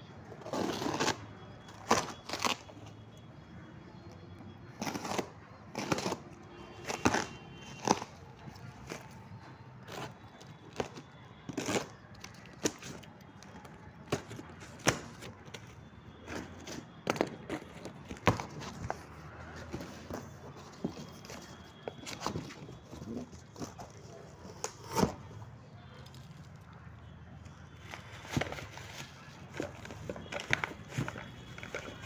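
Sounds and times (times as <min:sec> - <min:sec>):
tape and cardboard crackling: 0:00.3 - 0:03.0, 0:04.7 - 0:25.4, 0:27.4 - 0:32.0.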